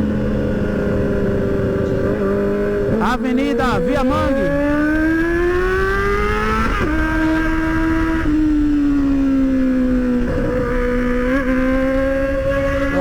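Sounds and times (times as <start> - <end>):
motorcycle engine while riding: 0.0 - 13.0.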